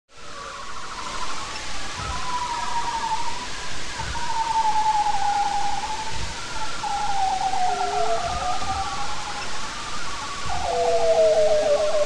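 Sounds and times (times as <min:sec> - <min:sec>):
sea noise hiss: 0:00.2 - 0:12.0.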